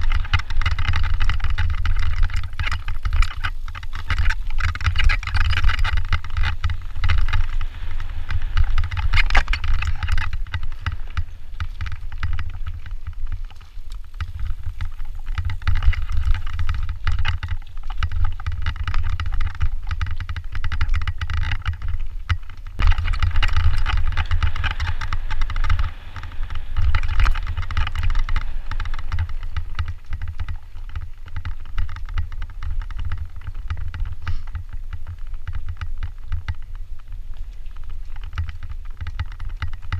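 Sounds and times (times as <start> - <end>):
tyres crunching over gravel: 0.0 - 35.4
bike rattling: 0.0 - 39.9
wind rumble on microphone: 0.0 - 39.9.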